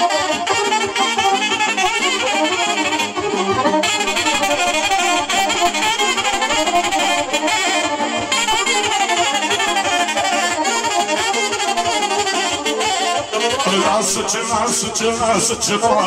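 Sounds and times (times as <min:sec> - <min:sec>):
live folk dance music: 0:00.0 - 0:16.0.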